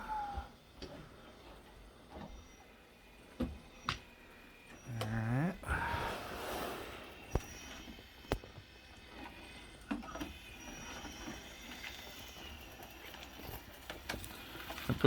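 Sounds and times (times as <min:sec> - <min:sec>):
robot vacuum motor whine: 0:00.0 - 0:15.0.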